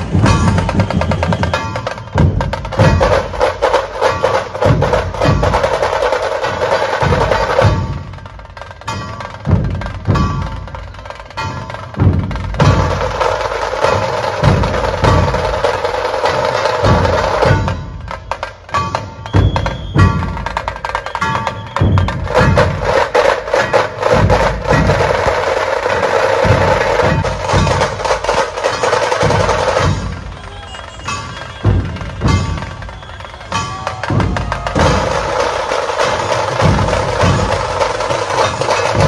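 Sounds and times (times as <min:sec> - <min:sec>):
deep drum beats: 0:00.0 - 0:39.0
drum-heavy music: 0:00.0 - 0:39.0.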